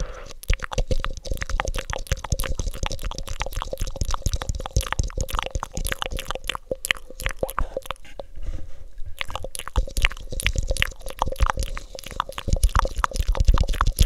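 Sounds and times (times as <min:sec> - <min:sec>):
tongue and lip clicks: 0:00.0 - 0:08.3, 0:09.2 - 0:14.0.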